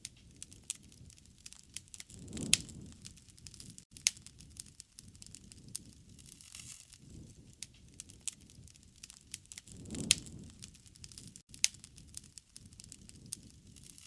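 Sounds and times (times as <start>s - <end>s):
rush of flames: 0.0s - 14.0s
wood crackling and popping: 0.0s - 14.0s.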